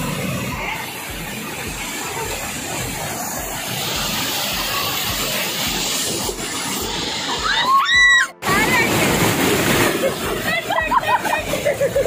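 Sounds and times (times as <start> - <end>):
water rushing down a channel: 0.0 - 12.0
water splashing over people: 0.0 - 12.0.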